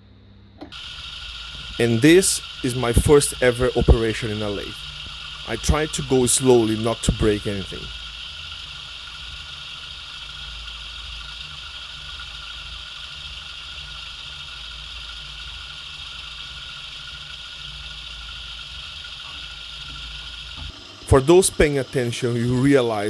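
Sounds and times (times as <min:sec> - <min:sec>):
lathe motor hum: 0:00.6 - 0:23.0
high hiss of cutting: 0:00.7 - 0:23.0.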